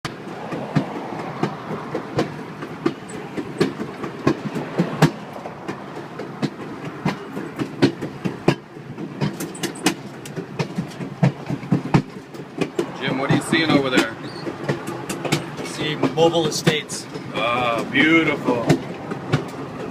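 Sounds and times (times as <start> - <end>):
train car rumbling on track: 0.0 - 19.9
wheel clacks and knocks: 0.0 - 19.9.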